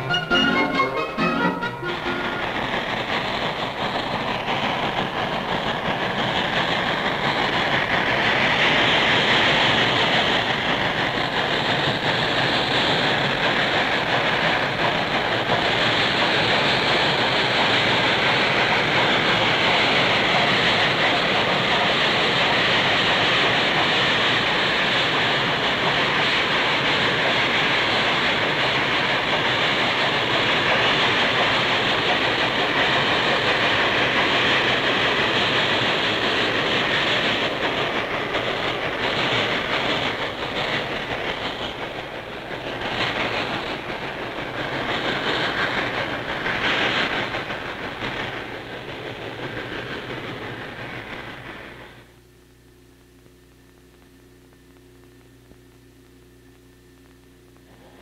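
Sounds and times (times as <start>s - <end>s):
steam locomotive running: 0.0s - 52.2s, 57.7s - 58.0s.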